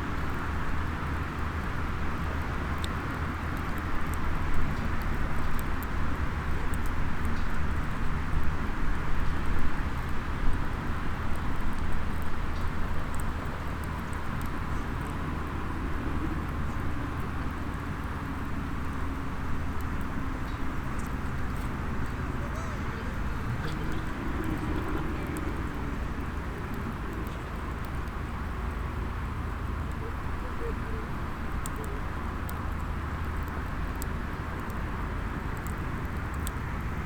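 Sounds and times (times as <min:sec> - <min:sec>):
low outdoor rumble: 0:00.0 - 0:37.0
wood fire crackling: 0:00.0 - 0:37.0.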